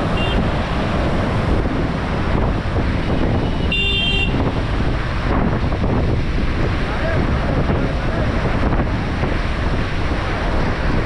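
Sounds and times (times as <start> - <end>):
flood water rushing: 0.0 - 11.0
wind buffeting microphone: 0.0 - 11.0.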